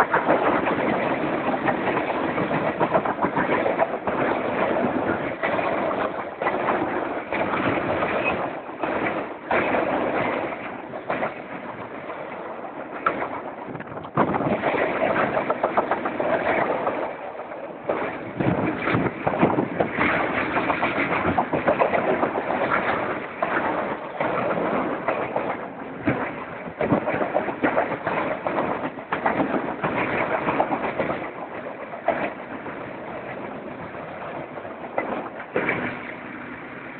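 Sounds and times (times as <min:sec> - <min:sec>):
train rumble: 0:00.0 - 0:36.9
train wheels clattering on rails: 0:00.0 - 0:36.9.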